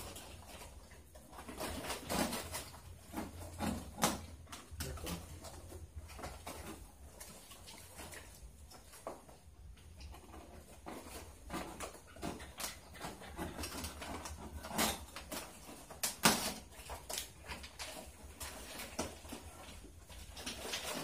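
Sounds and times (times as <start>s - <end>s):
plastic strips crinkling and clicking: 0.0s - 21.0s.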